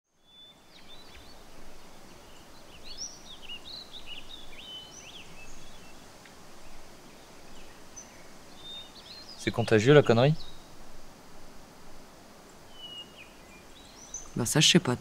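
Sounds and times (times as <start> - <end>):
low background noise: 0.1 - 15.0
small birds chirping: 0.1 - 15.0.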